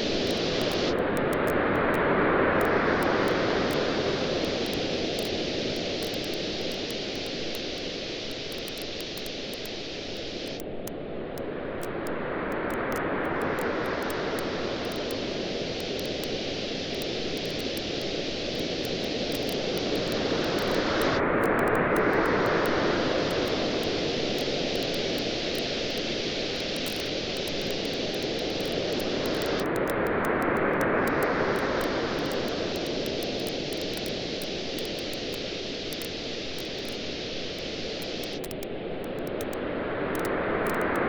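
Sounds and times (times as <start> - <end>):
waves washing on beach: 0.0 - 8.4, 11.5 - 41.0
campfire crackling: 2.6 - 10.8, 12.7 - 39.6.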